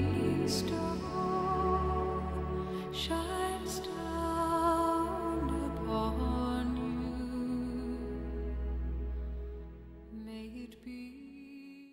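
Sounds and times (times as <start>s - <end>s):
slow new-age music: 0.0s - 11.9s.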